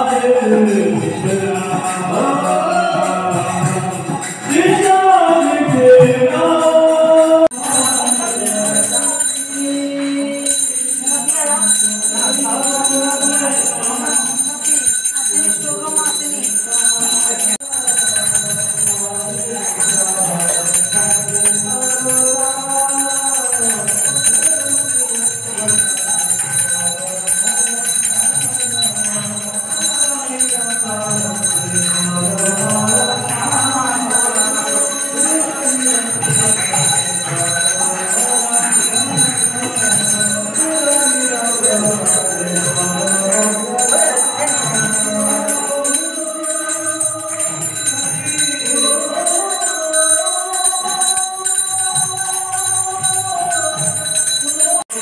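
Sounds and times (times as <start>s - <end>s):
handbell ringing: 0.0s - 5.8s, 6.5s - 55.0s
person chanting: 0.0s - 55.0s.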